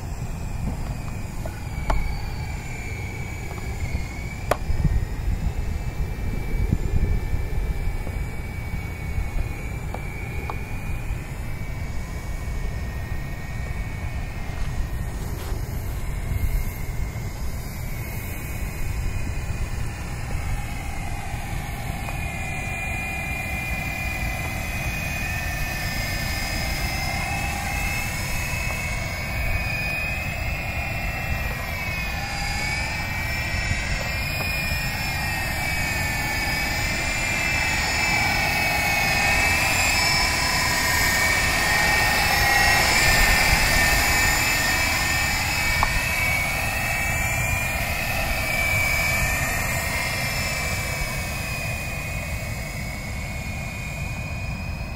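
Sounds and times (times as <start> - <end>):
toy helicopter rotors whining: 0.0 - 54.9.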